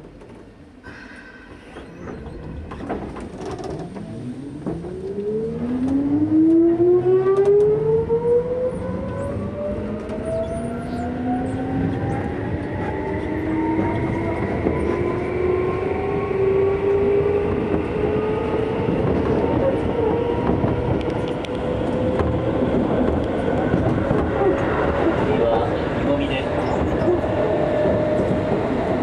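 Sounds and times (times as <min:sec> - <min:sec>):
wheels rumbling on rails: 0:00.0 - 0:29.0.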